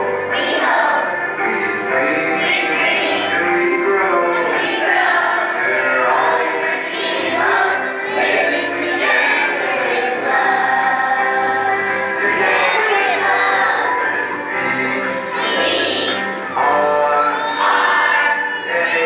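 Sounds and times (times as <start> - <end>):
children singing: 0.0 - 19.0
musical accompaniment with bass: 0.0 - 19.0.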